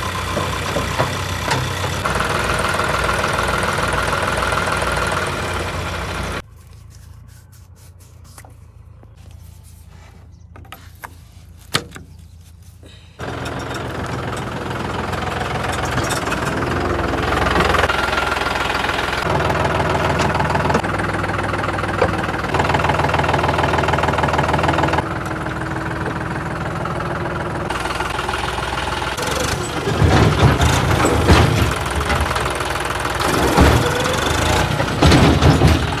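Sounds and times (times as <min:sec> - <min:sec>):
engine knocks: 0:00.0 - 0:06.4, 0:13.2 - 0:36.0
heavy diesel engine running: 0:00.0 - 0:06.5, 0:13.2 - 0:36.0.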